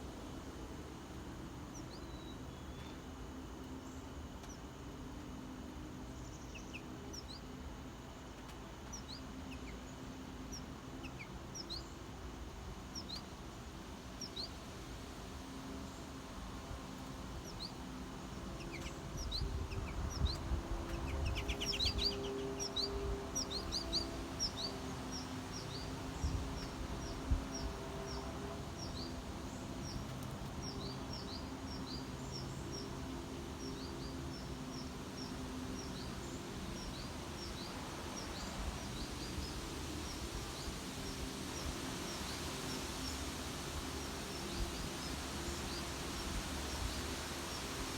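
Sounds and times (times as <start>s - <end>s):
low steady hum: 0.0s - 47.9s
songbirds chirping: 0.0s - 47.9s.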